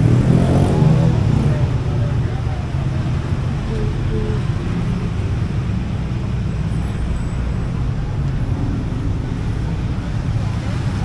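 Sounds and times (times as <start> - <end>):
busy street market noise: 0.0 - 11.0
road traffic rumble: 0.0 - 11.0.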